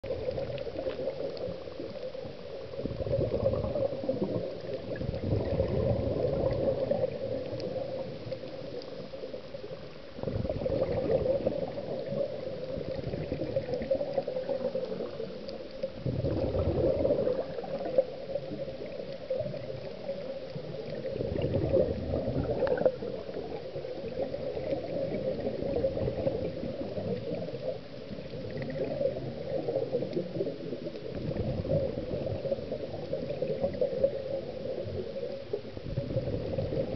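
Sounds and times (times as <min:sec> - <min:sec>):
underwater exhaust bubbles gurgling: 0:00.0 - 0:36.9.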